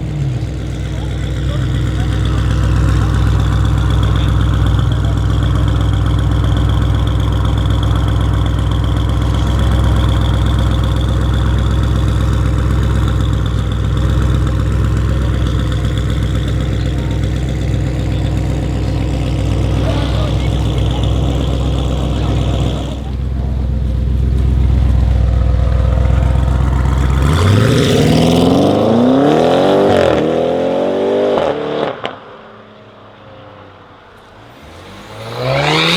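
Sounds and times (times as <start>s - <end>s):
car engine idling: 0.0s - 30.9s, 32.3s - 35.9s.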